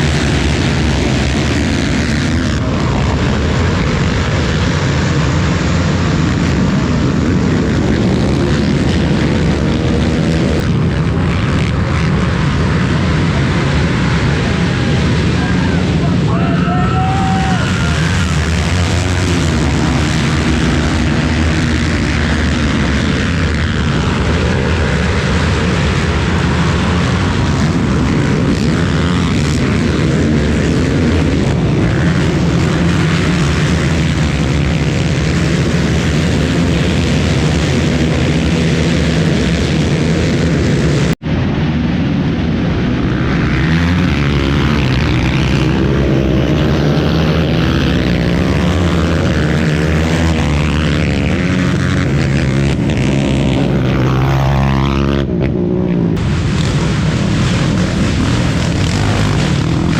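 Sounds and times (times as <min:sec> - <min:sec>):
atv engine at high revs: 0:00.0 - 0:16.1, 0:17.0 - 0:41.2, 0:43.0 - 0:59.9.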